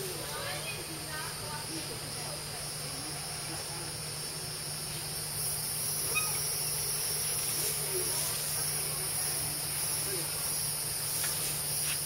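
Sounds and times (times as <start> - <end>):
faint distant voices: 0.0 - 12.0
insects chorus: 0.0 - 12.0.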